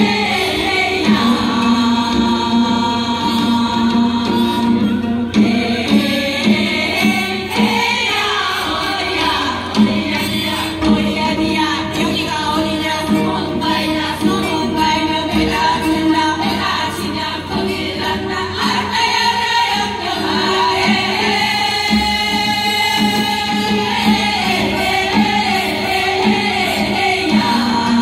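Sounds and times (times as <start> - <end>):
group singing together: 0.0 - 28.0.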